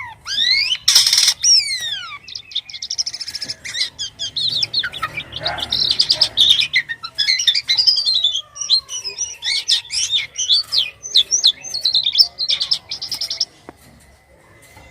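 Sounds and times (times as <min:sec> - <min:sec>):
starling chirping and whistling: 0:00.0 - 0:13.5.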